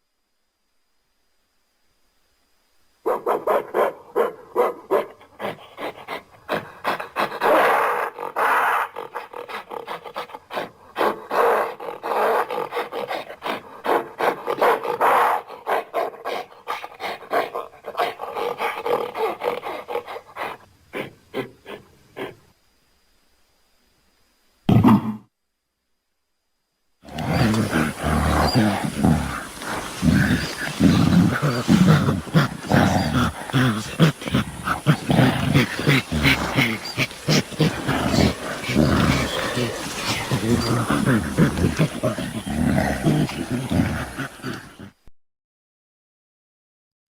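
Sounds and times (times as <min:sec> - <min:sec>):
gorilla grunts and barks: 0:03.1 - 0:22.5, 0:24.7 - 0:25.3, 0:27.0 - 0:45.0.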